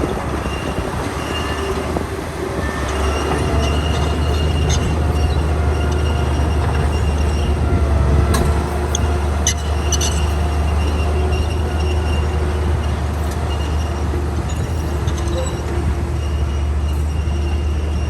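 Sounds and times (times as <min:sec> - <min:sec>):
bulldozer diesel engine running: 0:00.0 - 0:18.0
metallic squeal of steel tracks: 0:00.0 - 0:18.0.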